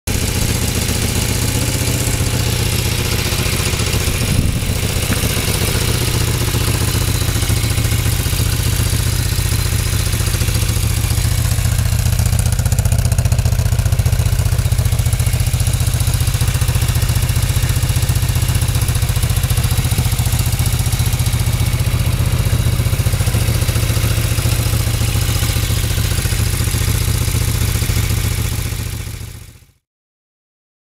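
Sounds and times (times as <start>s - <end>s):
motorcycle engine idling: 0.1s - 29.8s.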